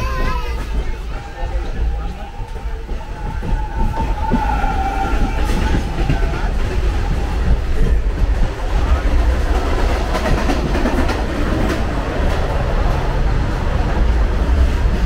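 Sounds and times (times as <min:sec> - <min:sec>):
rail joint clacks: 0:00.0 - 0:15.0
train wheels rumbling on track: 0:00.0 - 0:15.0.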